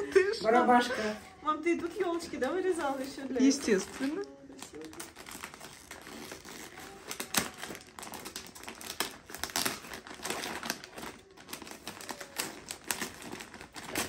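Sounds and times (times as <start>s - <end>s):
wrapping paper crinkling: 1.8s - 14.0s.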